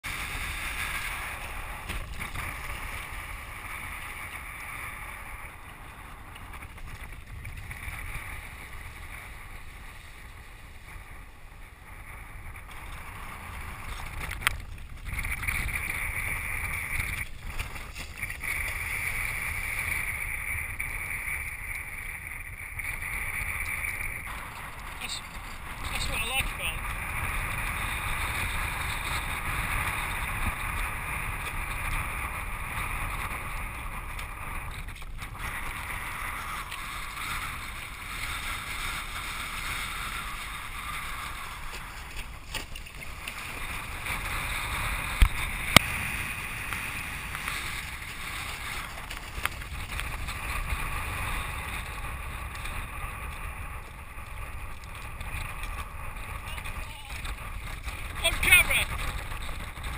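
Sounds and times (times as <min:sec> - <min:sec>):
choppy water churning: 0:00.0 - 0:59.9.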